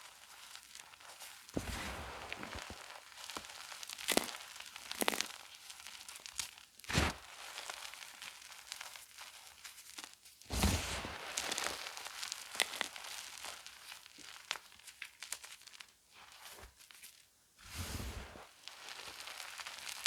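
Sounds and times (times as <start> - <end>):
chalk crunching and crumbling: 0.0 - 20.0.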